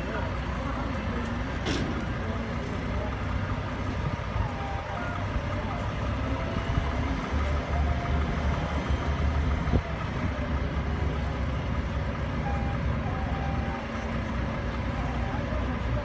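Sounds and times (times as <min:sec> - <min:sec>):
heavy engine idling: 0:00.0 - 0:16.0.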